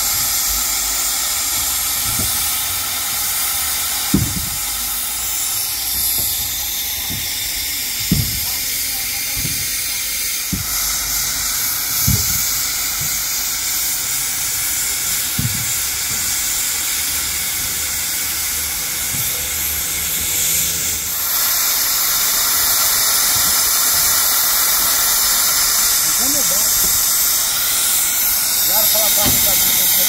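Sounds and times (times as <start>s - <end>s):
steam locomotive hissing steam: 0.0s - 30.0s.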